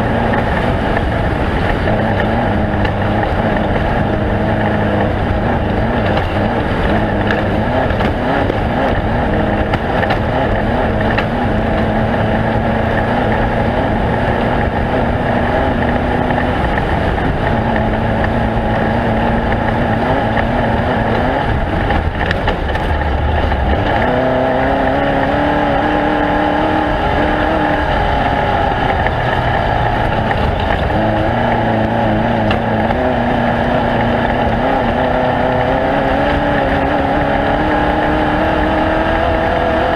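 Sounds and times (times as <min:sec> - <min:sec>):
race vehicle engine running hard: 0:00.0 - 0:39.9.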